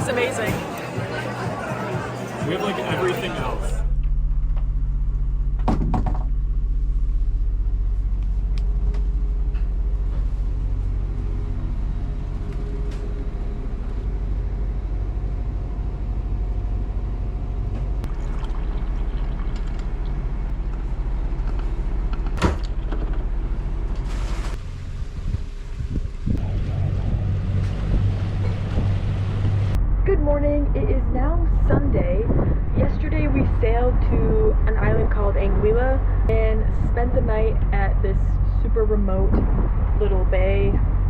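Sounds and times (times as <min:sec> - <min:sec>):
engine running low rumble: 0:00.0 - 0:41.0.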